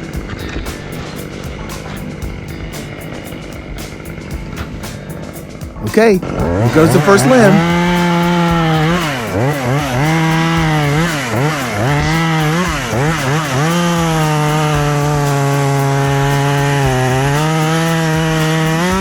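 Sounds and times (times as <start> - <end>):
chainsaw revving and cutting: 0.0 - 19.0.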